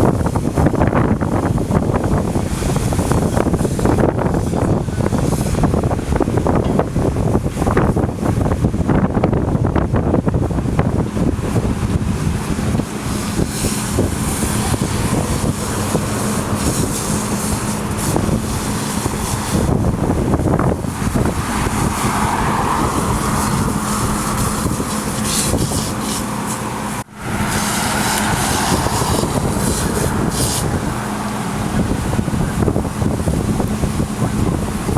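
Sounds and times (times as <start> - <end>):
vehicle engine humming: 0.0 - 34.9
wind and road noise: 0.0 - 34.9.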